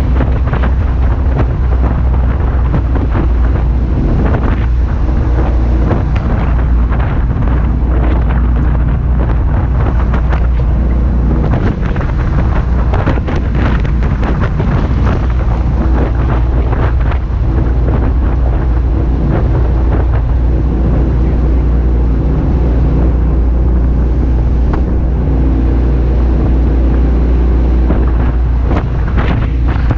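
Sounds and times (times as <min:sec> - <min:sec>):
jet boat engine running: 0:00.0 - 0:29.9
wind buffeting microphone: 0:00.0 - 0:29.9.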